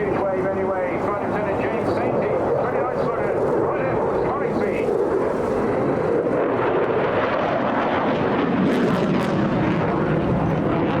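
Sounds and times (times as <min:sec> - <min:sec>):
fighter jet engine rush: 0:00.0 - 0:11.0.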